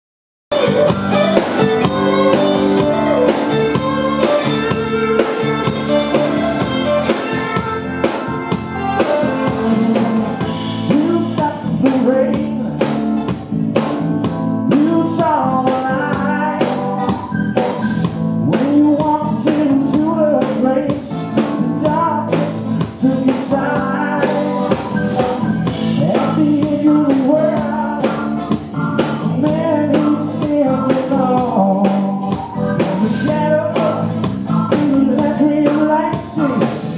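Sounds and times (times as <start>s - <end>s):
person singing: 0.5s - 14.0s, 14.6s - 17.8s, 18.4s - 36.9s
bass: 0.5s - 36.9s
drum kit: 0.5s - 36.9s
electric guitar: 0.5s - 36.9s.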